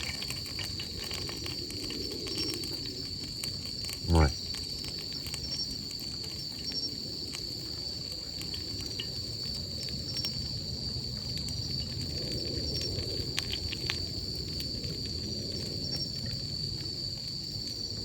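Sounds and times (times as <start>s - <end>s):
crickets chirping: 0.0s - 18.0s
light crackles and clicks: 0.0s - 18.0s.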